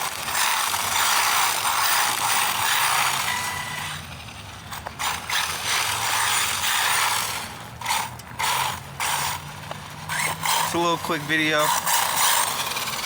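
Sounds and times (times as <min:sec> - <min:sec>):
toy car electric motor whirring: 0:00.0 - 0:13.0.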